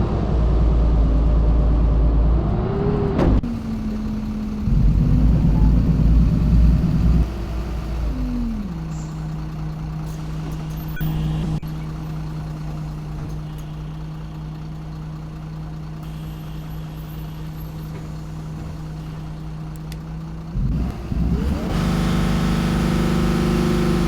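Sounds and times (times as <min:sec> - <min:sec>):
bus engine idling and pulling away: 0:00.0 - 0:24.0.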